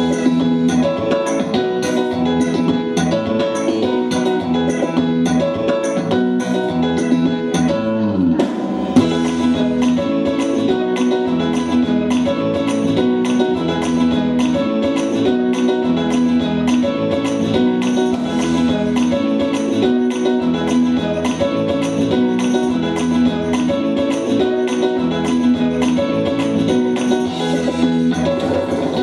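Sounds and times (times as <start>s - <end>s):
plucked guitar music: 0.0s - 29.0s.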